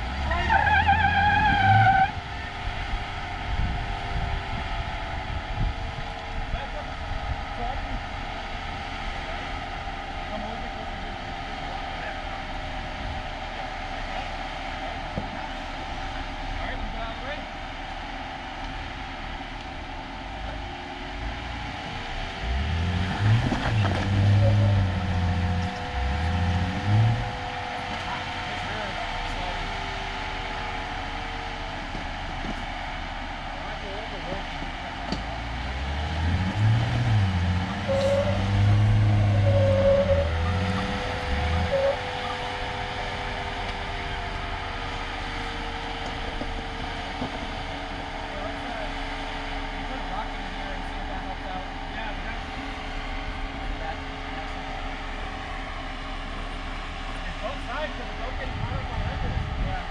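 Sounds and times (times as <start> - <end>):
off-road vehicle engine revving: 0.0 - 59.9
steady background rumble: 0.0 - 59.9.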